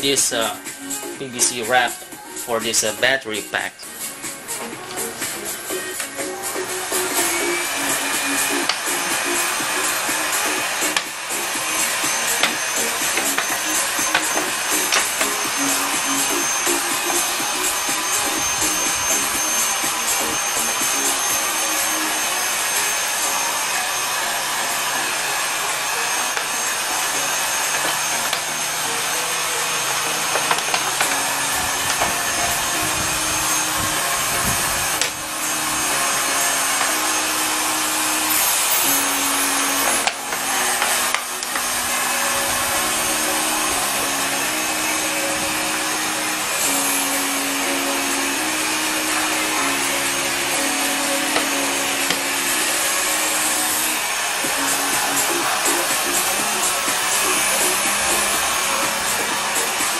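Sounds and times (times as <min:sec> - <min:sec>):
hot air gun blowing: 0:03.9 - 0:59.9.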